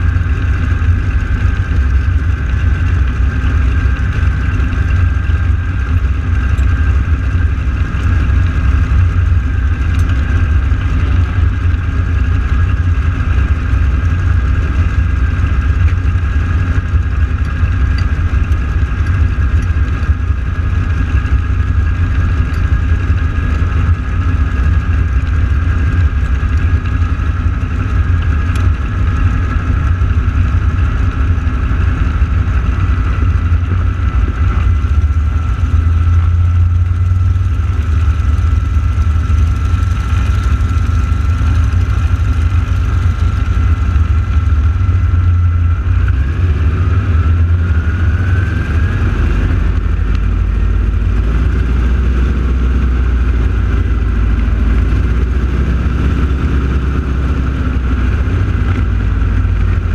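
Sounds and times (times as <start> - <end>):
aircraft engines idling: 0.0 - 59.9.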